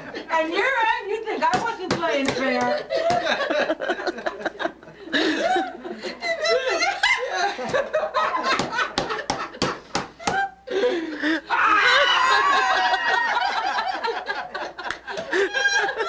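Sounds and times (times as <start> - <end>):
group of people laughing: 0.0 - 0.3, 2.4 - 16.0.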